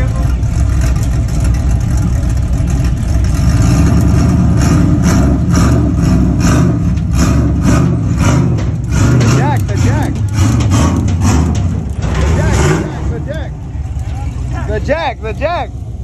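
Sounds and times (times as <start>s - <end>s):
pickup truck engine rumbling: 0.0s - 16.0s.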